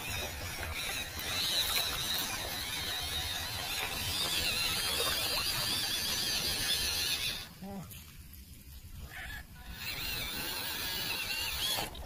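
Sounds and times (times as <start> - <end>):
small electric motor whining: 0.0 - 7.5, 9.1 - 12.0.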